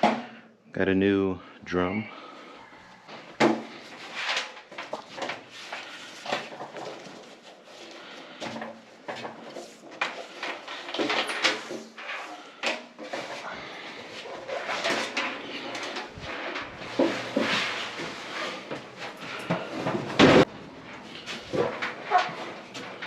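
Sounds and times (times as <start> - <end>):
dryer parts knocking and scraping: 3.1 - 23.0.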